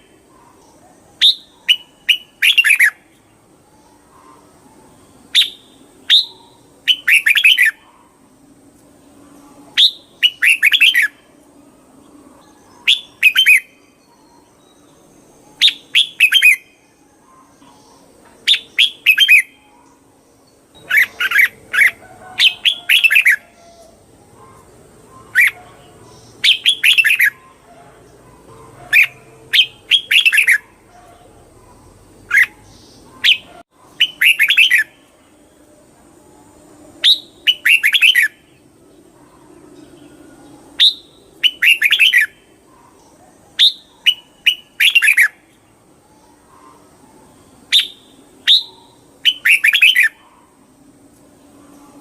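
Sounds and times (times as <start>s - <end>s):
bird singing chirping phrases: 0.0s - 52.0s.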